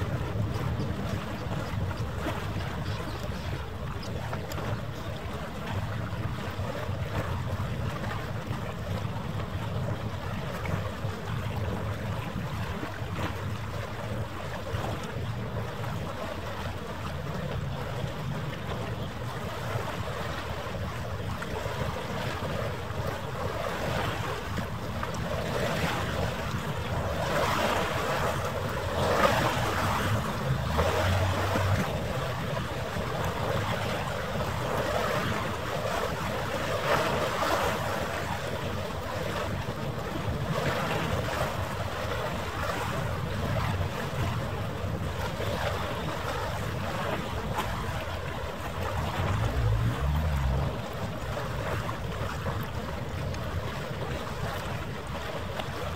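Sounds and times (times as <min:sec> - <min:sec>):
rushing water: 0:00.0 - 0:55.9
wind: 0:00.0 - 0:55.9.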